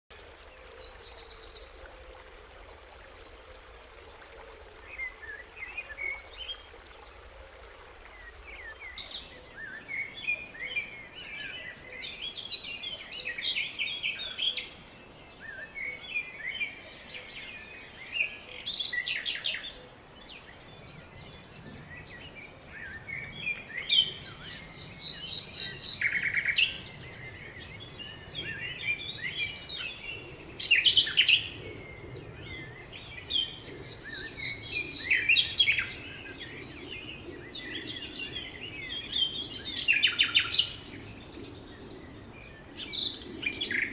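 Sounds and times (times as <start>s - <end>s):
birds singing and chirping: 8.1s - 43.9s.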